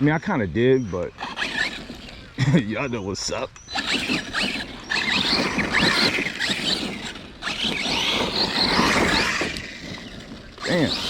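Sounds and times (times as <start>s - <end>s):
electric motor whining: 1.2s - 11.0s.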